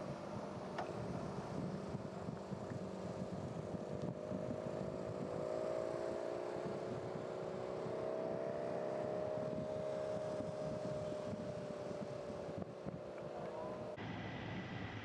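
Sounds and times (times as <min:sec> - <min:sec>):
motorbike engine running: 0:00.3 - 0:15.0.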